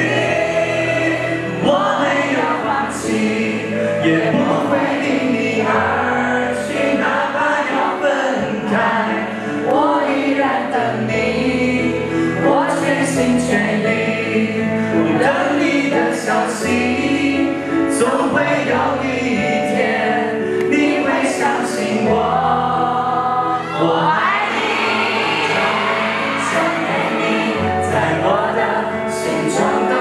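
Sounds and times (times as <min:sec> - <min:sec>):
man singing into a microphone: 0:00.0 - 0:24.6, 0:25.4 - 0:30.0
instrumental accompaniment: 0:00.0 - 0:30.0.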